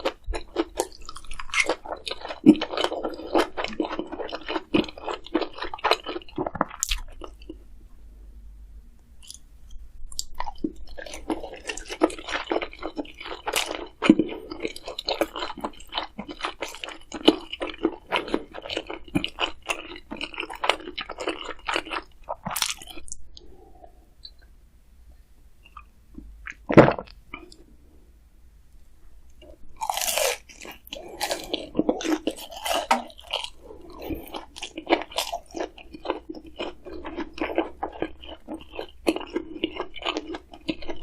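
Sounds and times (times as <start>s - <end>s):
person chewing crunchy food: 0.0s - 7.7s, 9.2s - 9.4s, 10.1s - 24.4s, 29.4s - 41.0s.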